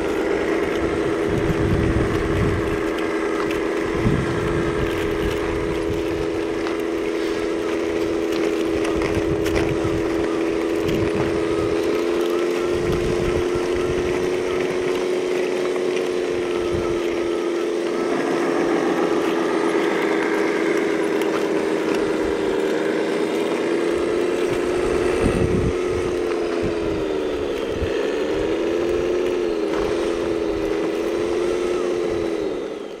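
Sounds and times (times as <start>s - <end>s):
electric drive whining: 0.0s - 33.0s.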